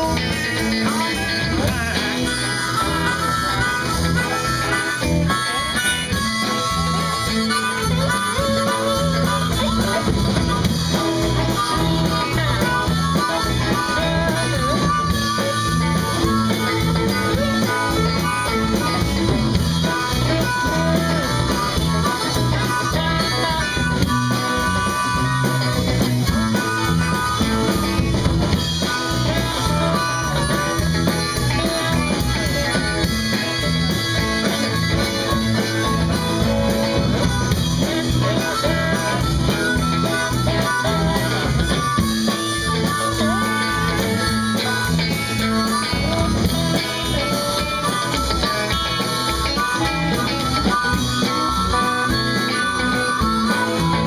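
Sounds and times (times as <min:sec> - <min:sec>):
bass guitar: 0:00.0 - 0:54.0
drums with steady beat: 0:00.0 - 0:54.0
electric guitar lead lines: 0:00.0 - 0:54.0.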